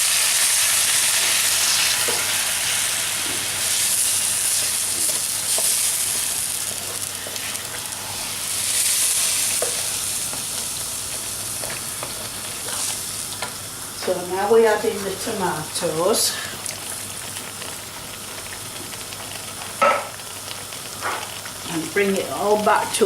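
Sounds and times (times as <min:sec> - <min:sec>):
mince sizzling in a hot pan: 0:00.0 - 0:23.0.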